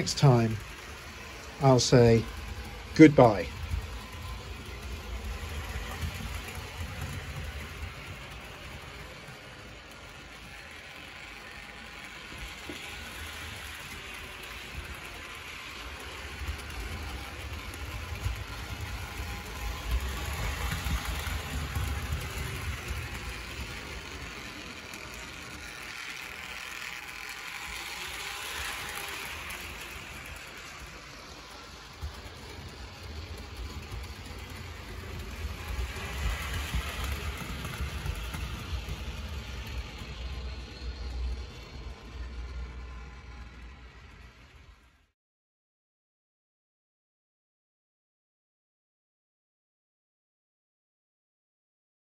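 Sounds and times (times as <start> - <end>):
metal wheels rumbling on track: 0.0 - 44.4
model train motor whirring: 0.0 - 45.1.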